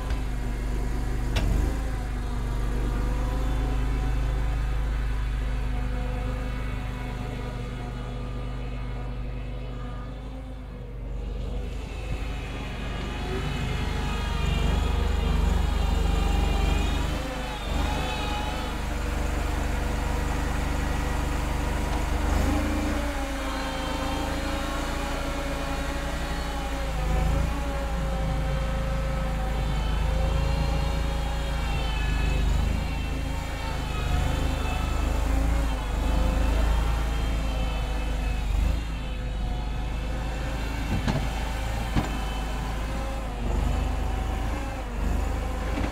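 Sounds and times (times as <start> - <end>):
loader engine under load: 0.0 - 45.9.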